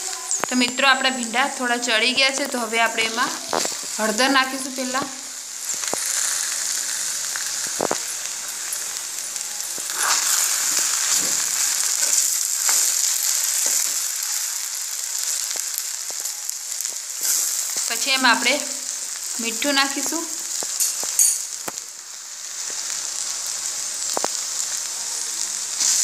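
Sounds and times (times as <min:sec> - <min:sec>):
okra sizzling in oil: 0:00.0 - 0:26.0.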